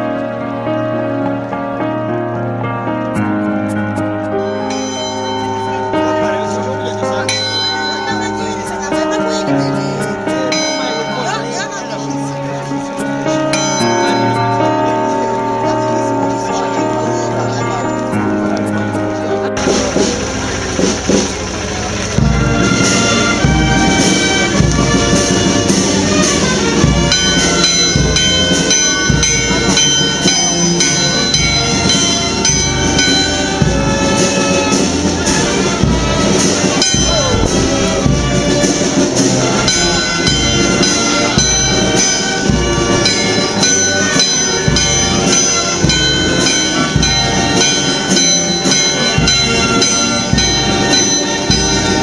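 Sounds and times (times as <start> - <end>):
brass band playing a march: 0.0 - 52.0
drum beats: 3.1 - 52.0.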